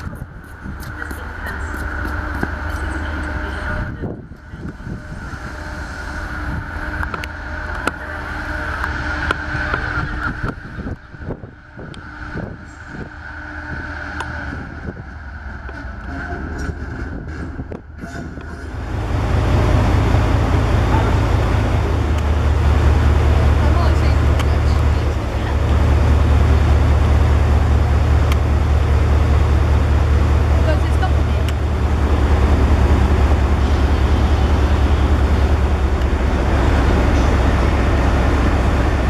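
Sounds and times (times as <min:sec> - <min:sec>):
diesel engine idling: 0:00.0 - 0:39.0
diesel locomotive passing with whine: 0:00.0 - 0:39.0.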